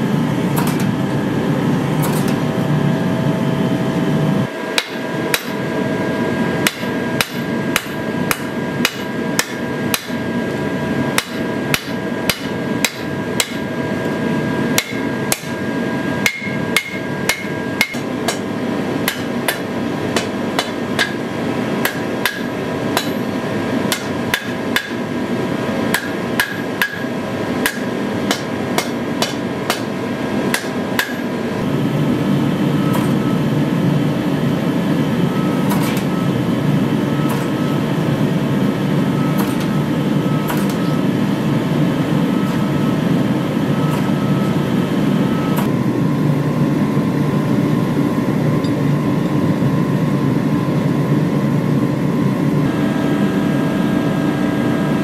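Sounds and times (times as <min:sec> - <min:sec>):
machine rumble: 0:00.0 - 0:55.0
steady background hum: 0:00.0 - 0:55.0.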